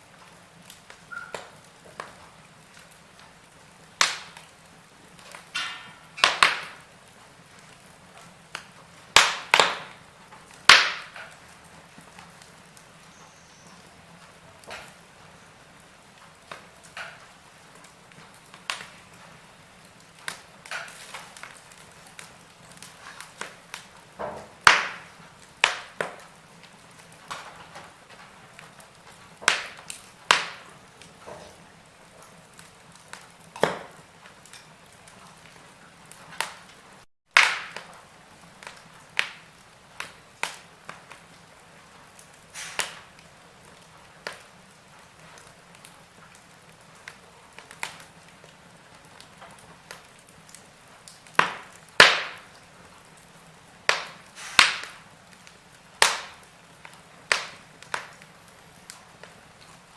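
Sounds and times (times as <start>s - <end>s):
low steady hiss: 0.0s - 59.9s
wood fire crackling: 0.0s - 59.9s.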